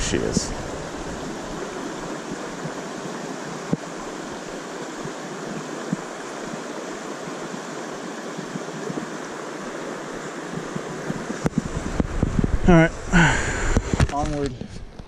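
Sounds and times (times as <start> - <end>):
stream rushing over rocks: 0.0 - 14.2.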